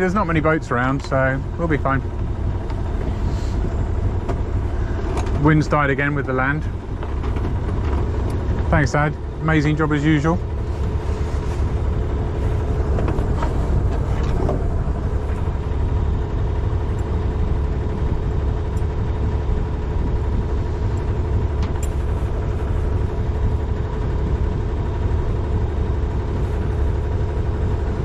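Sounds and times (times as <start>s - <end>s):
boat engine running steadily: 0.0s - 28.0s.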